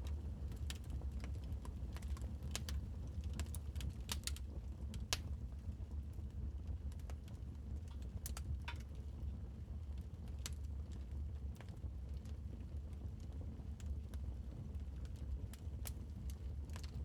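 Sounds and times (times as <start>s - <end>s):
low rumble of flames: 0.0s - 17.0s.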